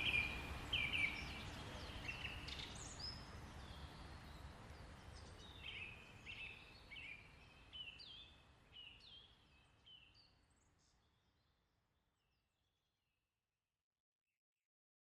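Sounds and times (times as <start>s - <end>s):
faint outdoor hiss: 0.0s - 12.5s.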